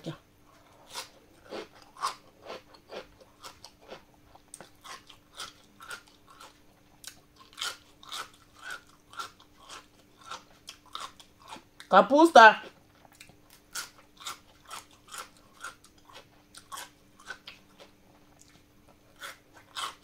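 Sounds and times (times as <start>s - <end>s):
chewing crunchy cabbage: 0.5s - 11.9s, 12.6s - 20.0s.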